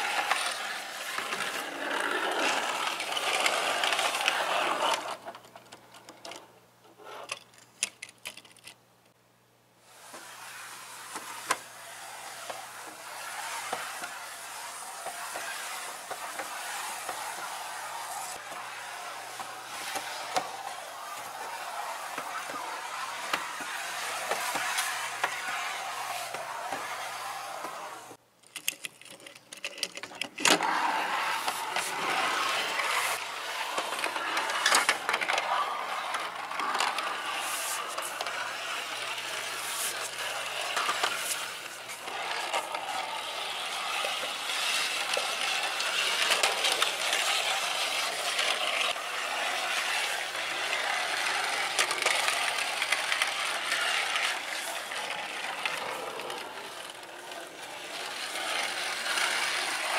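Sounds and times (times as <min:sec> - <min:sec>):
plastic toy wheels rolling and rattling: 0:00.0 - 0:08.8, 0:10.0 - 0:59.9.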